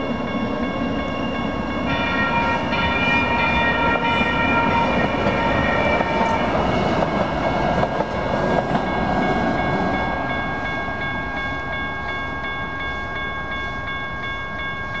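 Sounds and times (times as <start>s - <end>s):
crossing warning bell ringing: 0.0s - 15.0s
light rail train rumbling: 0.0s - 15.0s.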